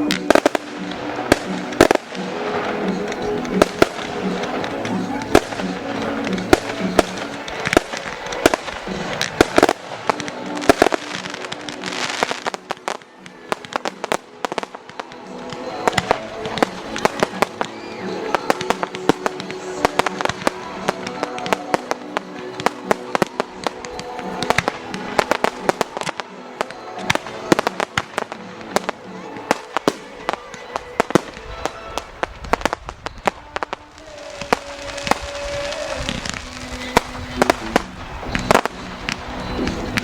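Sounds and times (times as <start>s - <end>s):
fireworks banging and crackling: 0.0s - 40.0s
music playing: 0.0s - 40.0s.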